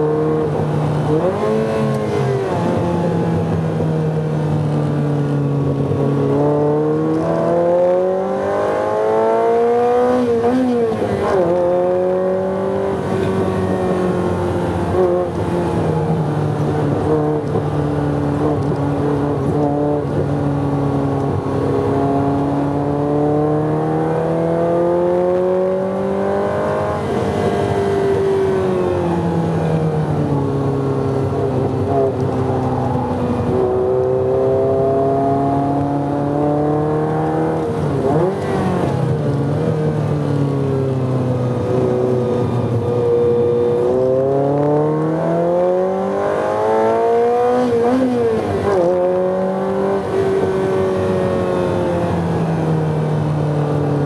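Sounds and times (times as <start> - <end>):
car engine revving: 0.0 - 29.4, 30.4 - 40.9, 41.5 - 52.3.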